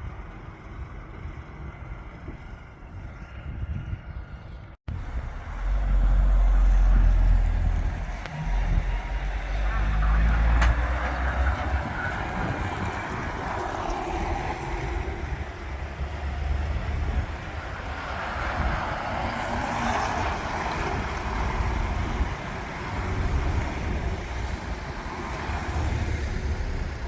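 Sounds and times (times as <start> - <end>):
heavy trucks driving past: 0.0 - 27.0.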